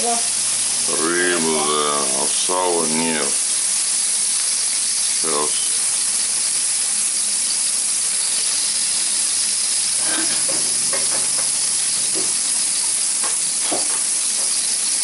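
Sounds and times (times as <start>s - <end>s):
food sizzling on electric grill: 0.0s - 15.0s.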